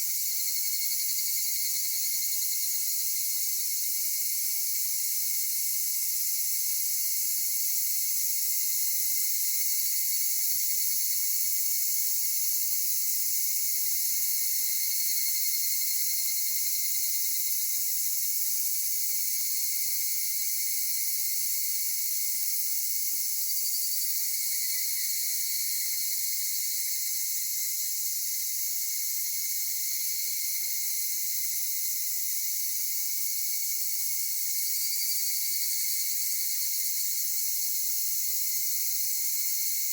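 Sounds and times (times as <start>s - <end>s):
insects chorus singing: 0.0s - 39.9s.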